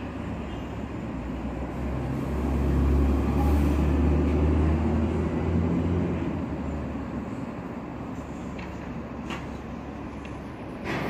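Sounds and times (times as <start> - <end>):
subway train low hum: 0.0 - 11.0.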